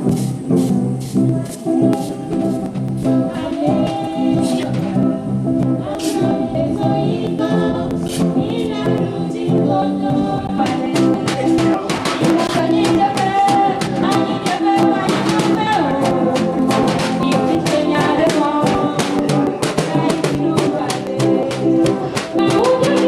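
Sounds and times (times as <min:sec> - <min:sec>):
percussion strikes: 0:00.0 - 0:06.5, 0:10.1 - 0:23.0
voices singing together: 0:01.2 - 0:23.0.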